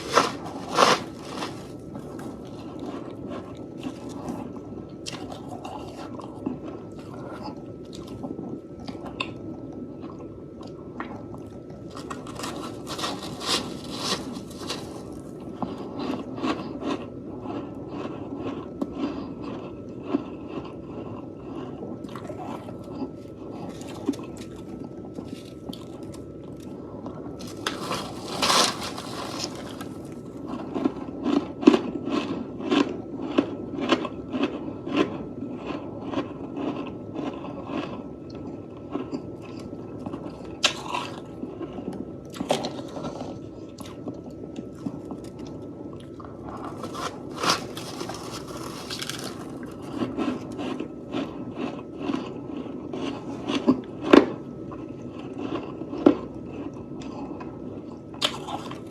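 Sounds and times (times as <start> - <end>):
person chewing crunchy frost: 0.0 - 58.9.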